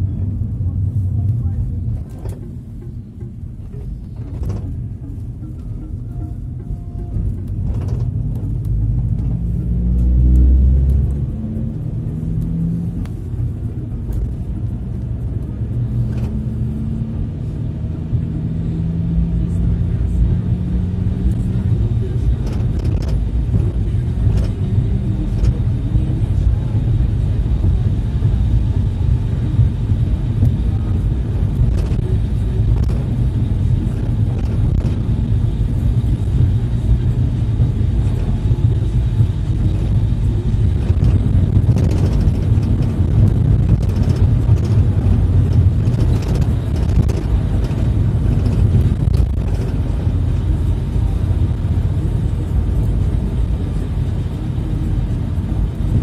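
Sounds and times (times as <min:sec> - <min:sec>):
minibus engine and road rumble: 0:00.0 - 0:56.0.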